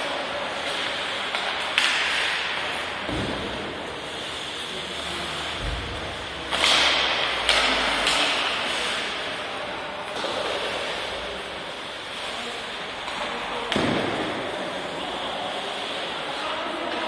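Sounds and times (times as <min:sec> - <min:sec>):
sharp puck slaps with echoing hiss: 0:00.0 - 0:04.7, 0:05.5 - 0:15.1
sticks puck and skates on ice: 0:00.0 - 0:05.6, 0:06.2 - 0:17.0.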